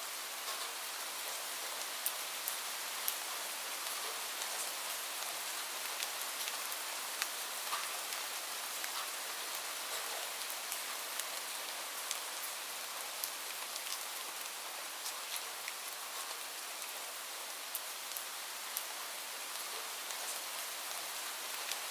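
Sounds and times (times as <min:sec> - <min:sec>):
light rain hissing: 0:00.0 - 0:21.9
raindrops ticking on a surface: 0:00.1 - 0:21.9.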